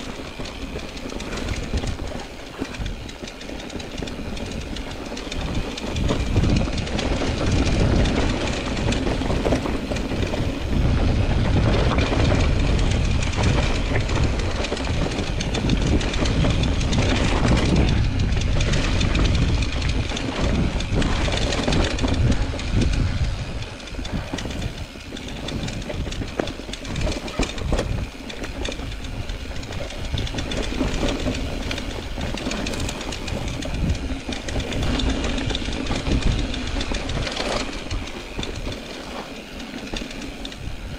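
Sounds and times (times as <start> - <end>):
bike rattling over bumps: 0.0 - 40.9.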